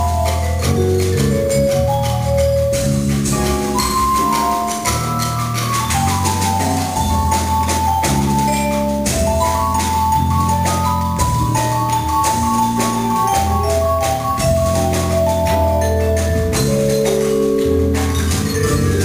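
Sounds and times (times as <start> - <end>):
vibraphone played with mallets: 0.0 - 19.0.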